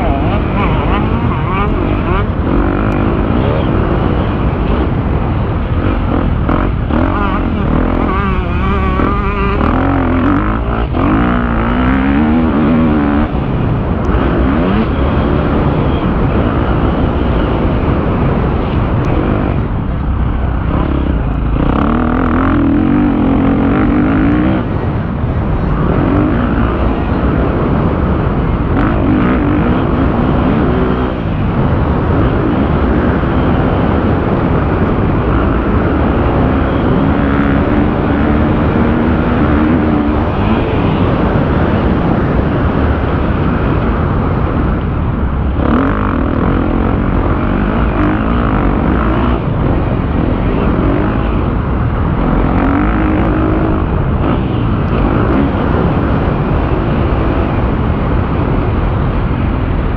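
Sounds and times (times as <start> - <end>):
motocross bike engine revving: 0.0 - 59.5.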